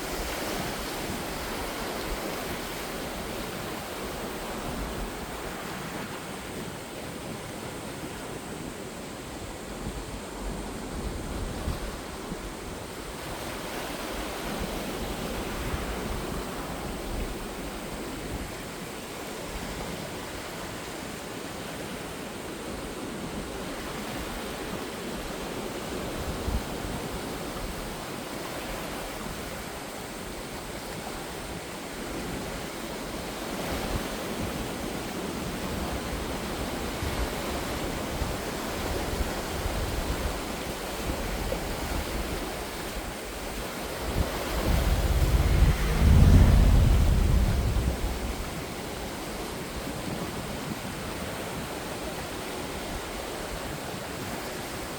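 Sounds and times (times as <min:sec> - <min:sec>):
wind buffeting microphone: 0:00.0 - 0:20.9, 0:22.5 - 0:54.9
sea waves breaking: 0:00.0 - 0:54.9.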